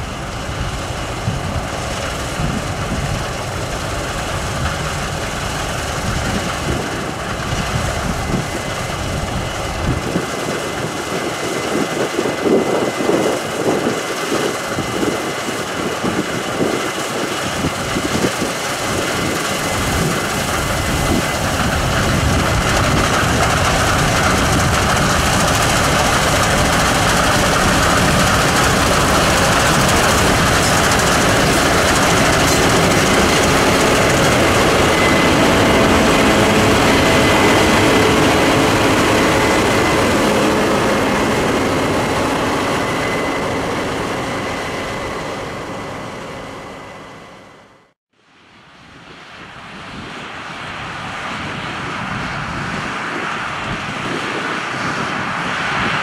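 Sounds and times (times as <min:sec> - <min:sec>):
combine harvester engine drone: 0:00.0 - 0:47.9.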